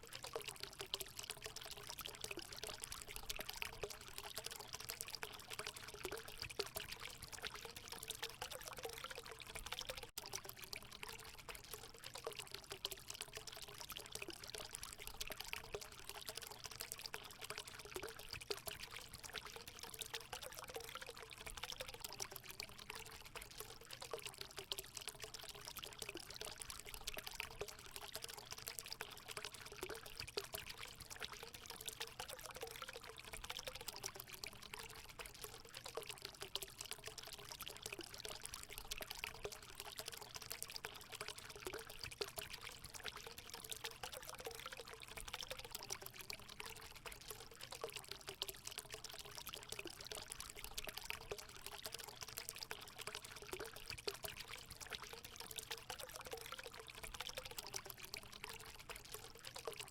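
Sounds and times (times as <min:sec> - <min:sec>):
water gurgling: 0:00.0 - 0:59.9
water pouring into pool: 0:00.0 - 0:59.9.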